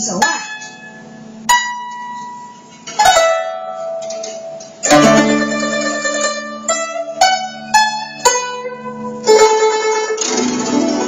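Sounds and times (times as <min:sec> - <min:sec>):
zither plucked notes: 0:00.0 - 0:11.0.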